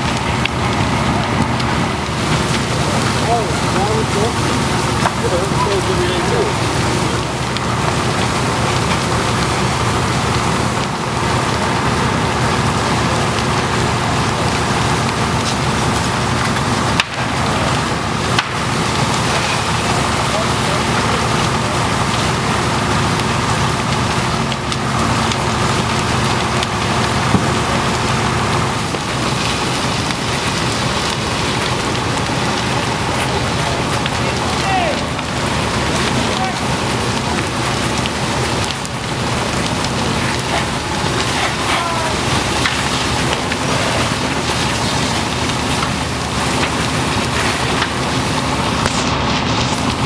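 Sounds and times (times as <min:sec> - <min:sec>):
fire crackling and popping: 0:00.0 - 0:50.0
fire rushing: 0:00.0 - 0:50.0.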